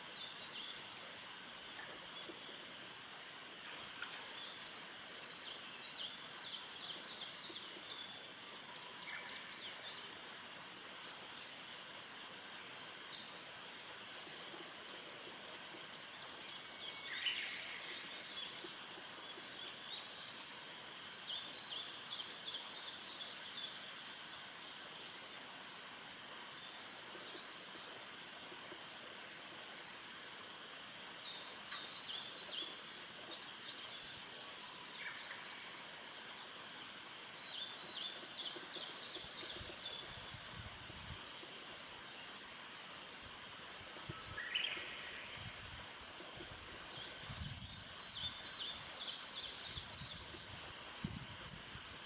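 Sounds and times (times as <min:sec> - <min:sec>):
steady background hiss: 0:00.0 - 0:52.0.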